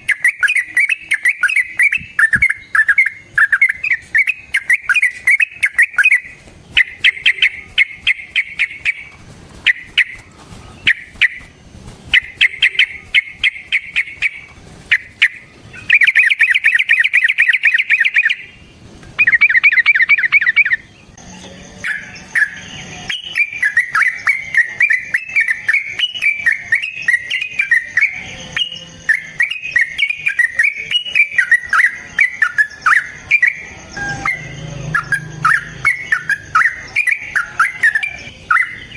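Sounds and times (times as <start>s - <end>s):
bird rattling trills: 0.0s - 18.5s, 21.9s - 38.9s
bird chattering song: 0.0s - 38.9s.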